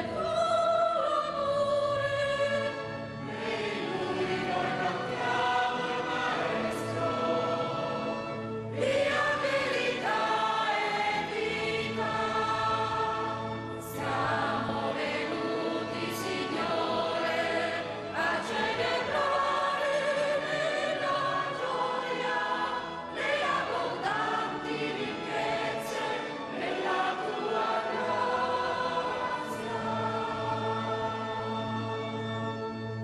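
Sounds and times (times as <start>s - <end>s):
choir singing a hymn: 0.0s - 32.9s.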